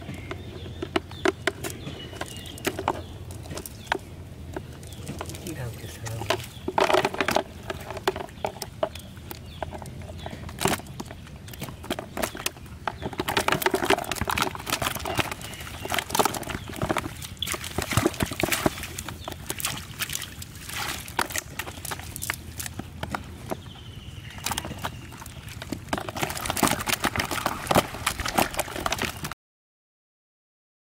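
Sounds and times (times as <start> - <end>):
fish slapping against plastic basin: 0.1 - 23.7, 24.3 - 29.3.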